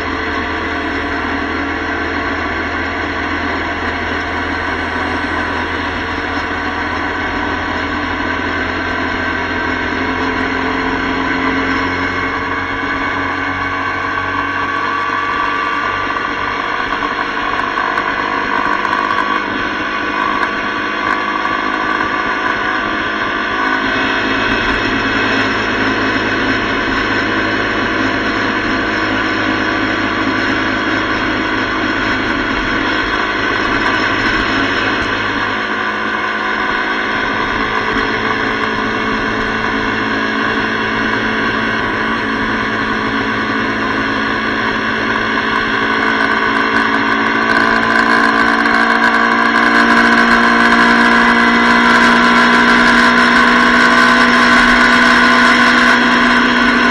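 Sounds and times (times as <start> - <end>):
motorcycle engine cruising: 0.0 - 56.9
road noise: 0.0 - 56.9.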